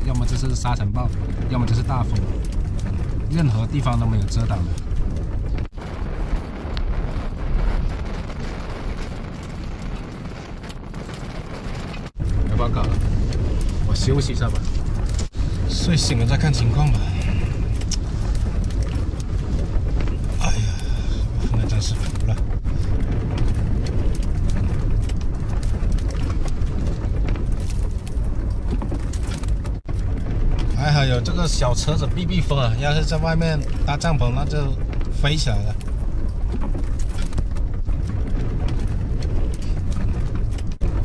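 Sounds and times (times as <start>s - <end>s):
small rattles and clicks: 0.0s - 41.0s
strong wind buffeting microphone: 0.0s - 41.0s.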